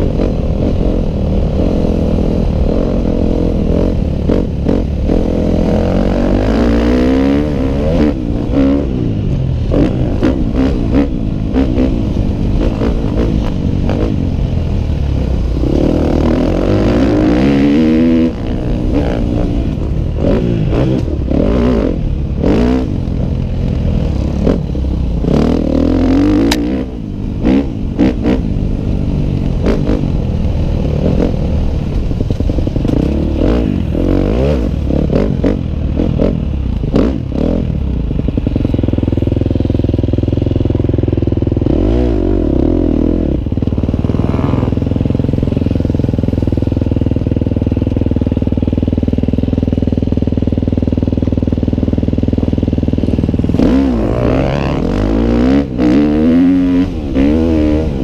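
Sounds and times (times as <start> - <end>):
dirt bike engine revving: 0.0 - 14.5, 15.4 - 31.8, 32.4 - 37.7, 39.8 - 46.6, 52.9 - 58.0.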